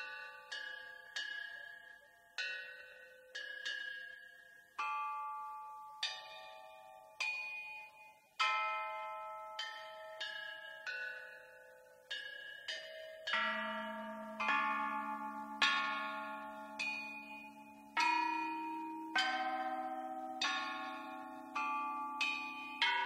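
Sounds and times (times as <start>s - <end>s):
bell-like struck notes melody: 0.0s - 23.0s.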